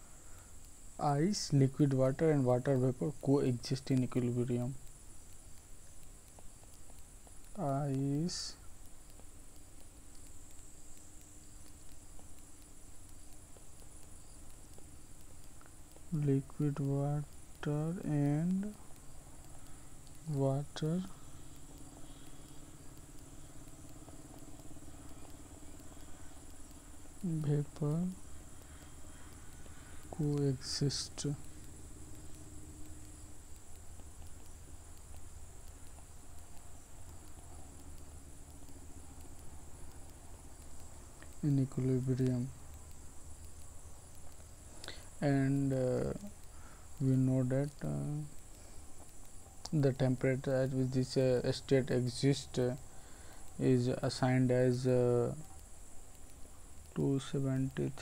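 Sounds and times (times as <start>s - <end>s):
high-pitched whine: 0.0s - 58.0s
low room hum: 0.0s - 58.0s.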